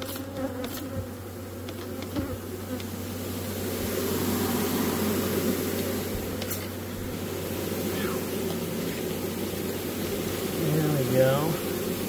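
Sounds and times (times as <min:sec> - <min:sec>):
honeybee colony buzzing: 0:00.0 - 0:12.0.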